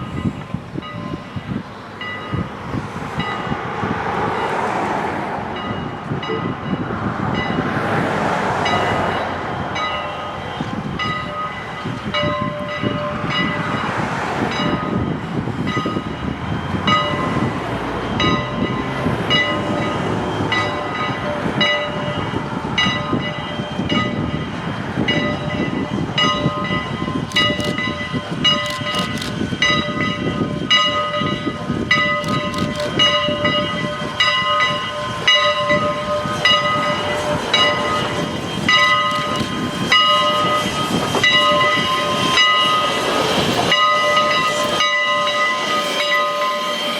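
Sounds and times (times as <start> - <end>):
steam train rumble and clatter: 0.0 - 46.9.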